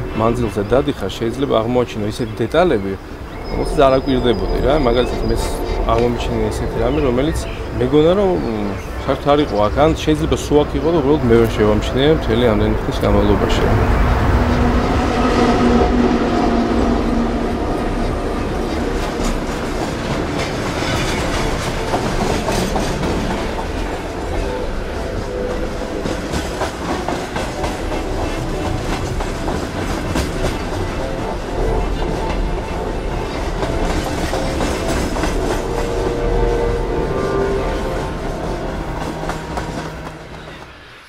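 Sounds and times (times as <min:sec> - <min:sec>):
train wheels rumbling: 0:00.0 - 0:41.0.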